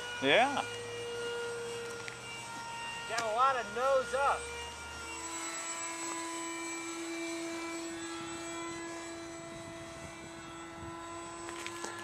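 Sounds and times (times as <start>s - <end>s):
electric ducted fan whining: 0.0s - 12.0s.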